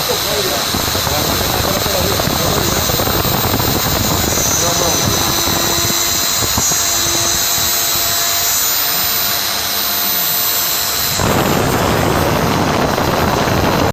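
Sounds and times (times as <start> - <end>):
cutter working material: 0.0 - 13.9
milling spindle whine: 0.0 - 13.9.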